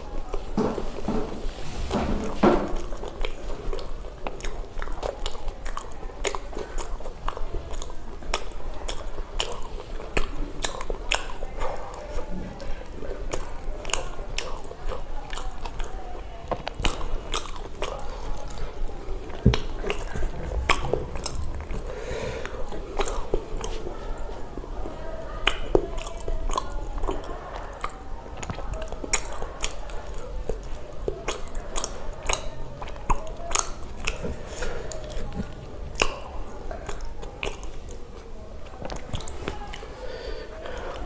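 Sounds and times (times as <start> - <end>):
wet chewing and smacking: 0.0 - 41.0.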